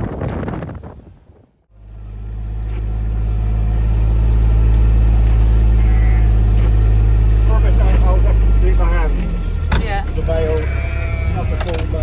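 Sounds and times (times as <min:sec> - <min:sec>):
tractor engine running: 0:01.7 - 0:12.0.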